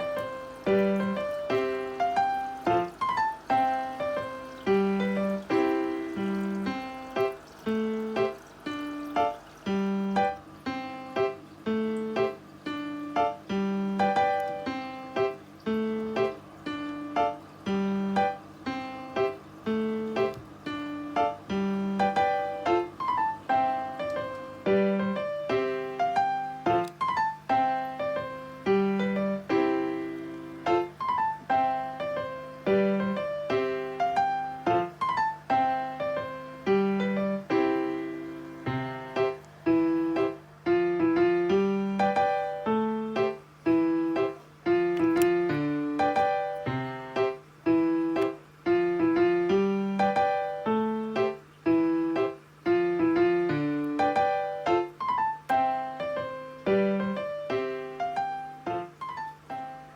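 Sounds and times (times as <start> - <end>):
gentle piano tune: 0.0 - 59.9.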